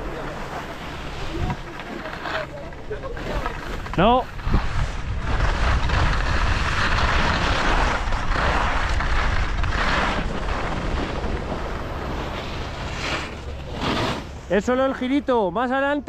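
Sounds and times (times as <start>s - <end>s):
wind rumbling on microphone: 0.0s - 2.2s, 2.8s - 14.6s
skis scraping over snow: 0.0s - 15.6s.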